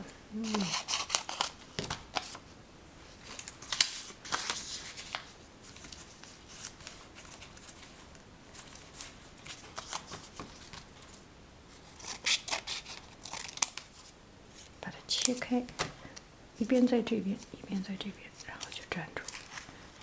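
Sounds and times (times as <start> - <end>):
paper rustling and crinkling: 0.4 - 2.4, 3.0 - 17.5, 18.2 - 20.0.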